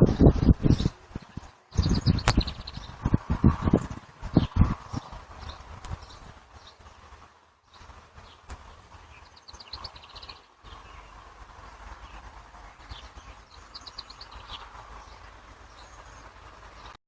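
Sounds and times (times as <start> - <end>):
small bird singing: 0.0 - 7.0, 7.6 - 17.0.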